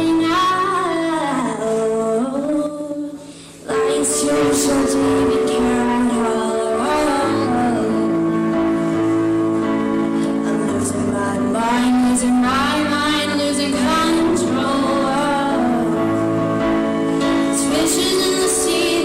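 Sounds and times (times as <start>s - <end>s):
girl singing: 0.0s - 8.3s, 10.2s - 16.3s, 17.4s - 19.0s
accompaniment chords: 3.7s - 19.0s.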